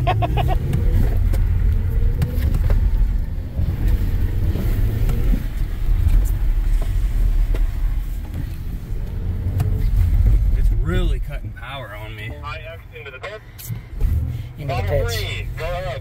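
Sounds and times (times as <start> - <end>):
tyre and road rumble: 0.0 - 16.0.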